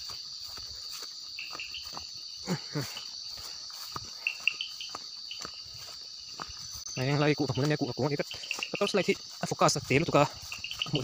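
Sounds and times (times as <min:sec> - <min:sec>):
crickets buzzing: 0:00.0 - 0:11.0.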